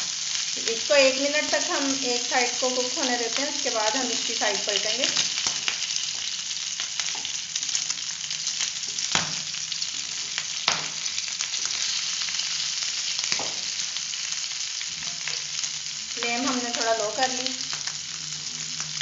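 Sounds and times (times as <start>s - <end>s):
meat and garlic sizzling in butter: 0.0s - 19.0s.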